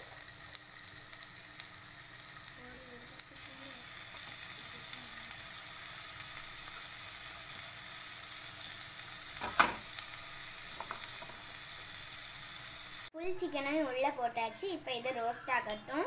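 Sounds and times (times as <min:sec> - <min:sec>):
chicken sizzling in hot oil: 0:00.0 - 0:13.2.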